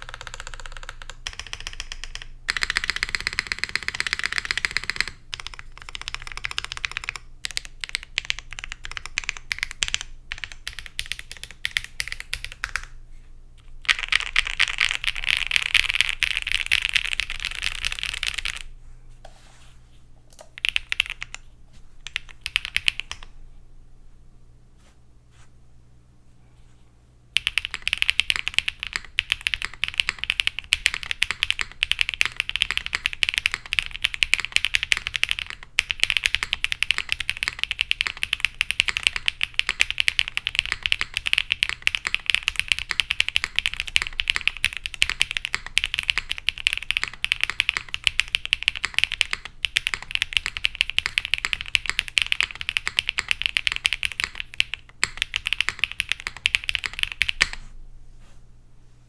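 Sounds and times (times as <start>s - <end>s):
mechanical keyboard typing: 0.0s - 12.9s, 13.8s - 18.7s, 20.3s - 21.4s, 22.0s - 23.3s, 27.4s - 57.6s.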